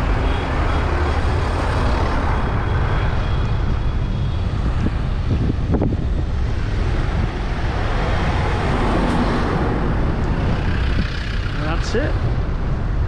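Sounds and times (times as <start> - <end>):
tractor engines rumbling: 0.0 - 13.0.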